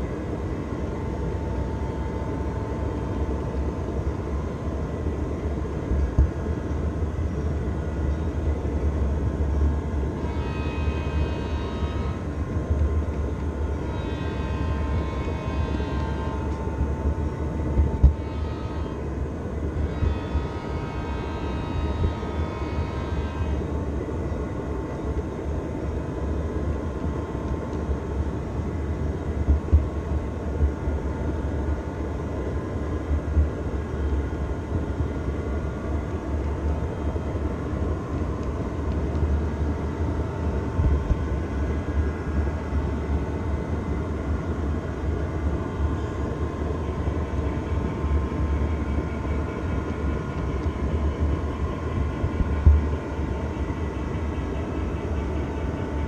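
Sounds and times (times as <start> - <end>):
model train rumbling on track: 0.0 - 56.0.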